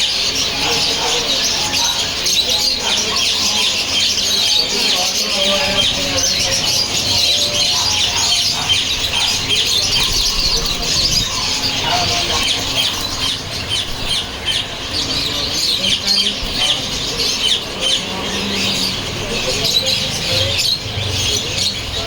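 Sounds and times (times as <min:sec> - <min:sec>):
bird squawk: 0:00.0 - 0:22.0
birds chirping: 0:00.0 - 0:22.0.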